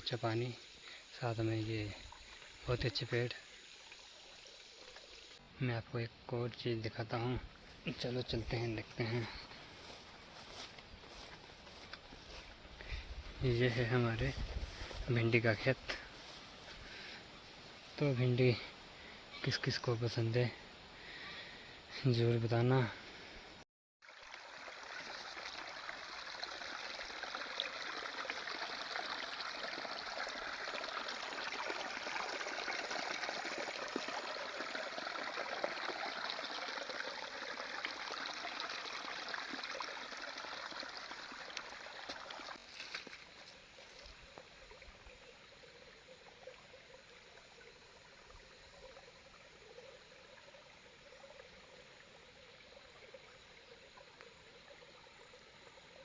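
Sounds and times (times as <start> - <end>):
water flowing and trickling: 1.6 - 56.0.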